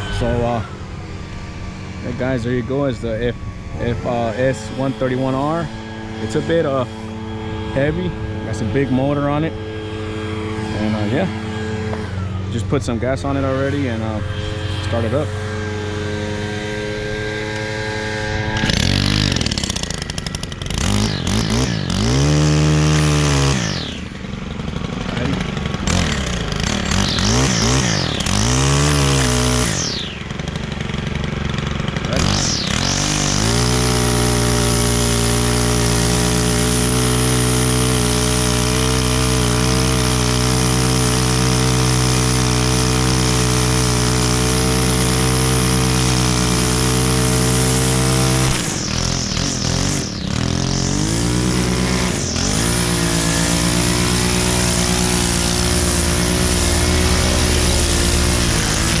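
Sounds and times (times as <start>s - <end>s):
string trimmer engine revving: 0.0s - 59.0s.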